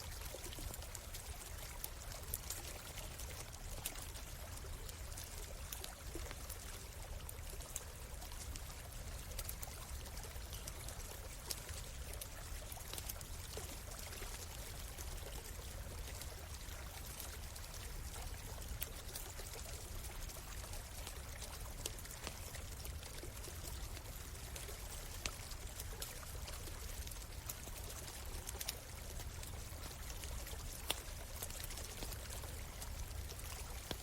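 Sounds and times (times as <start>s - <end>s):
campfire crackling: 0.0s - 34.0s
stream flowing and trickling: 0.0s - 34.0s.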